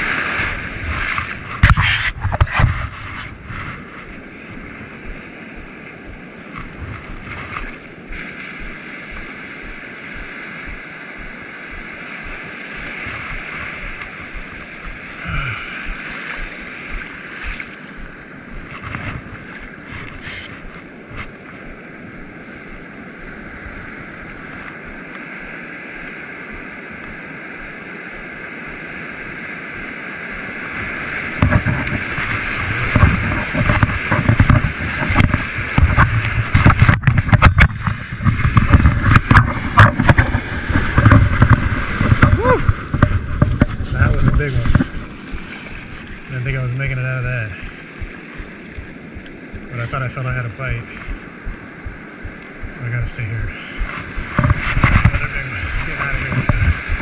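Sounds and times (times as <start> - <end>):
ocean surf breaking: 0.0 - 57.0
wind on microphone: 0.0 - 57.0.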